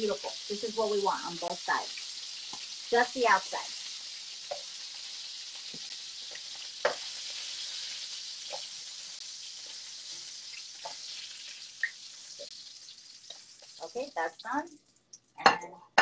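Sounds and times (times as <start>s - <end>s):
meat sizzling in a pan: 0.0s - 15.4s.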